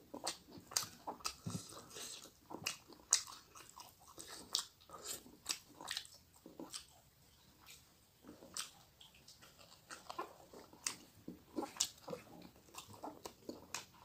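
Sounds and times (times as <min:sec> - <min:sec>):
person chewing with mouth smacks: 0:00.0 - 0:14.0.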